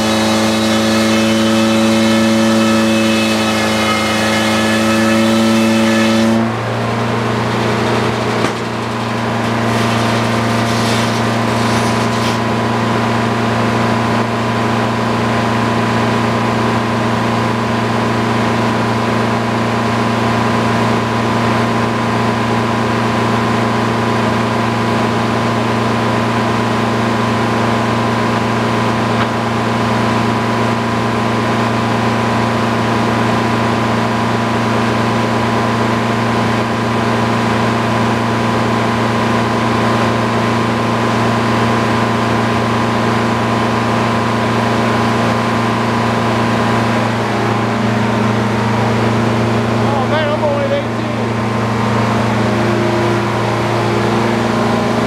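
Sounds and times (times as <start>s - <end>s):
circular sawmill running: 0.0s - 55.0s.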